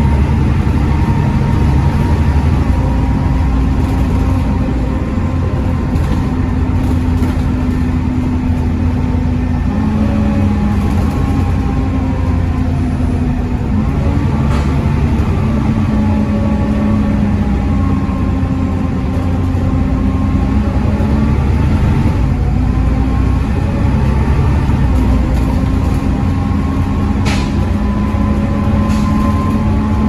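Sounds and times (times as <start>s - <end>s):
bus diesel engine running: 0.0s - 30.0s
engine whine: 0.0s - 30.0s.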